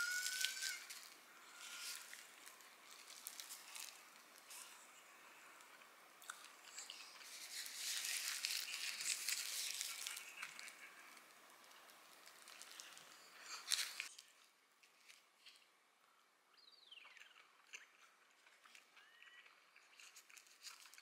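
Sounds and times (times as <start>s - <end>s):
plastic wrapper crinkling: 0.0s - 4.8s, 6.2s - 15.7s, 18.4s - 21.0s.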